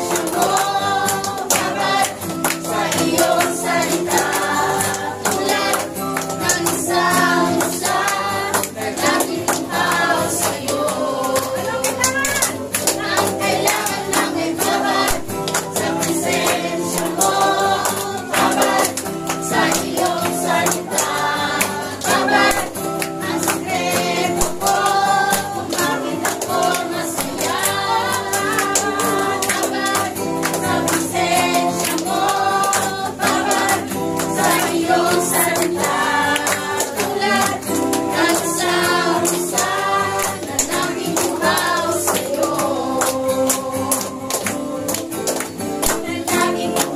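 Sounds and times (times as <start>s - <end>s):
group singing worship song: 0.0s - 46.9s
instrumental accompaniment: 0.0s - 46.9s
percussion: 0.0s - 46.9s.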